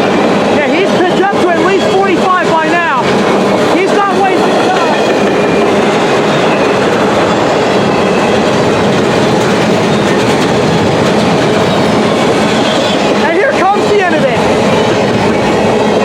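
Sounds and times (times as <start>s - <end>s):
steel wheels rushing on rail: 0.0s - 16.0s.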